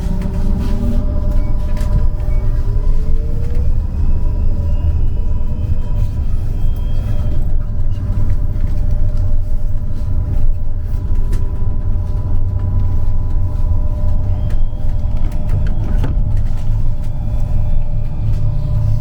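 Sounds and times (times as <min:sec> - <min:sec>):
trolleybus road rumble: 0:00.0 - 0:19.0.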